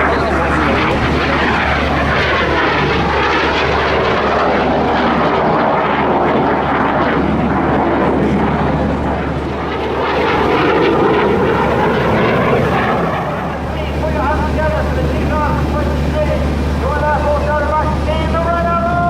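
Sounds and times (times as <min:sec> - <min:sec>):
aircraft engine passing: 0:00.0 - 0:19.0.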